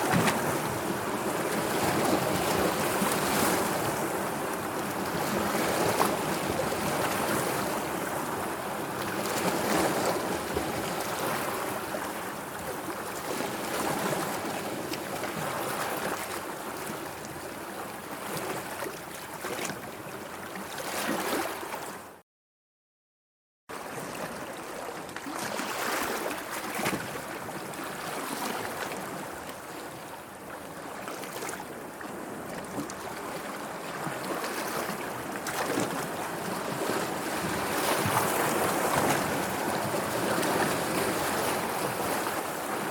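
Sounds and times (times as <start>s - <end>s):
sea water washing and lapping: 0.0s - 22.0s, 23.8s - 42.9s.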